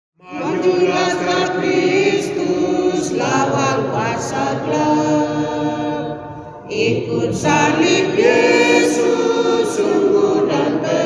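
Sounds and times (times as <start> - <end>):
choir singing a hymn: 0.2 - 11.0.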